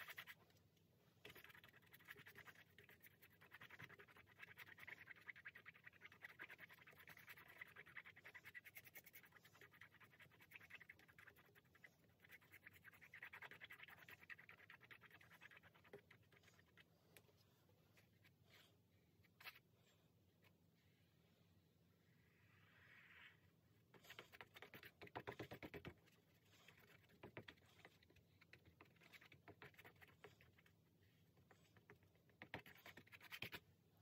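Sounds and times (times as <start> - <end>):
paintbrush scrubbing canvas: 0.0 - 0.6, 1.2 - 19.6, 23.9 - 33.7.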